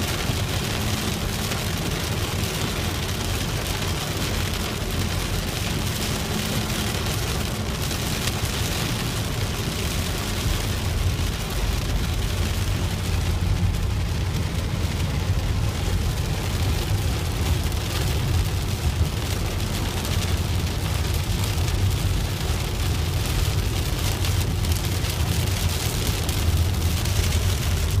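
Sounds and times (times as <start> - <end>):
rain hissing on a car: 0.0 - 28.0
road and engine rumble: 0.0 - 28.0.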